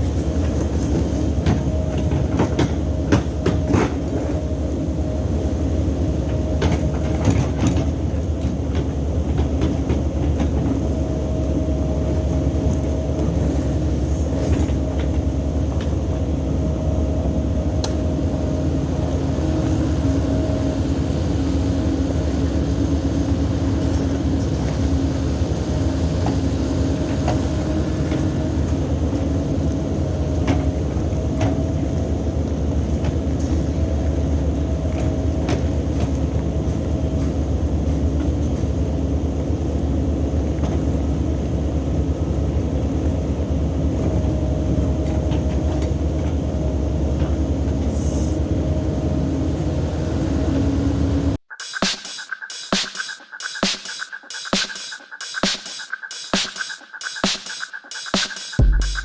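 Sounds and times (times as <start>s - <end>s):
excavator diesel engine: 0.0s - 51.5s.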